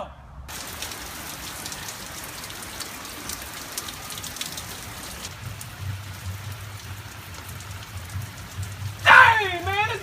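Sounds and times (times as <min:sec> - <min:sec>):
steady rain falling: 0:00.5 - 0:10.0.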